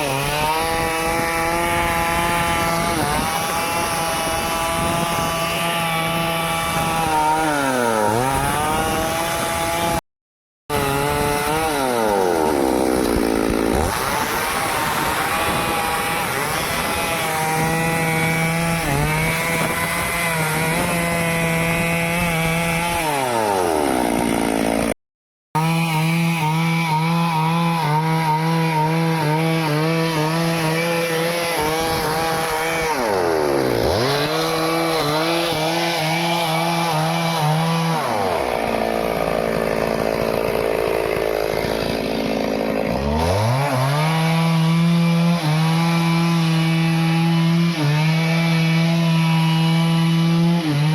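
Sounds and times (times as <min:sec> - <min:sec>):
chainsaw cutting wood: 0:00.0 - 0:10.0, 0:10.7 - 0:25.0, 0:25.6 - 0:50.9.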